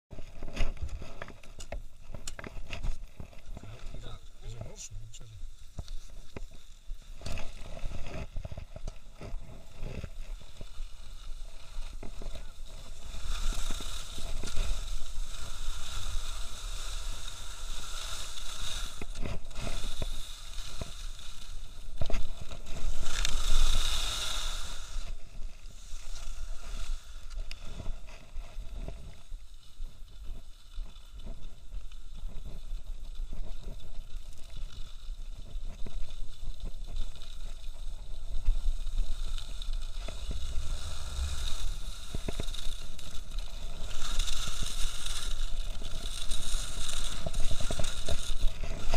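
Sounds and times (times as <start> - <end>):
wind rumbling on microphone: 0.1 - 48.9
skis scraping on snow: 0.2 - 48.9.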